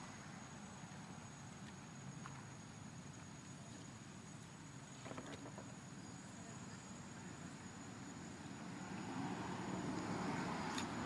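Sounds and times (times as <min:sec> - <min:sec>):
high insect whine: 0:00.0 - 0:11.0.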